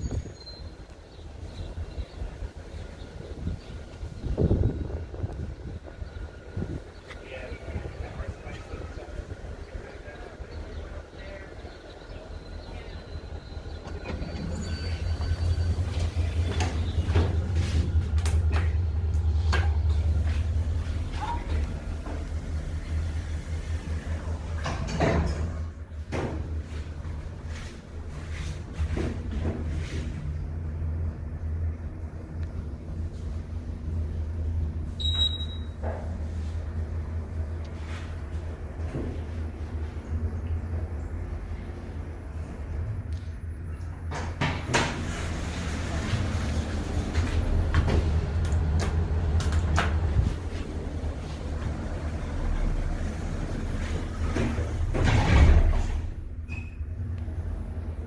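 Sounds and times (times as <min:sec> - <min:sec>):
elevator low rumble: 0:00.0 - 0:58.0.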